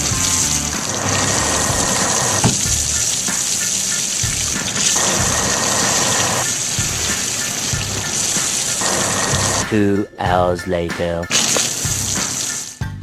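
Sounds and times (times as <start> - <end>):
rushing water spray: 0.0 - 9.7, 11.3 - 12.8
music with low beat: 0.0 - 13.0.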